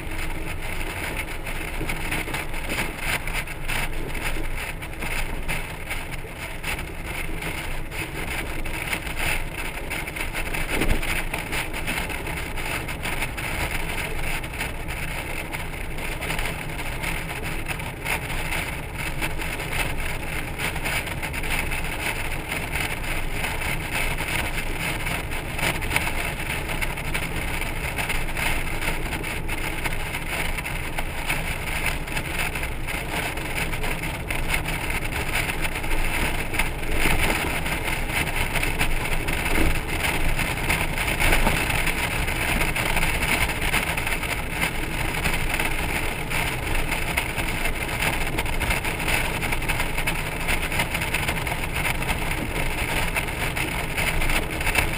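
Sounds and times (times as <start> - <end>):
wind noise on microphone: 0.0 - 54.9
wind rush and road rumble: 0.0 - 54.9.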